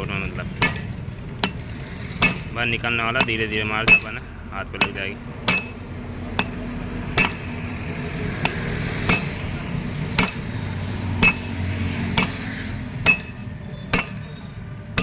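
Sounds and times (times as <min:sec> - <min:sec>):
hammer striking metal: 0:00.5 - 0:07.6, 0:08.3 - 0:10.6, 0:11.2 - 0:15.0.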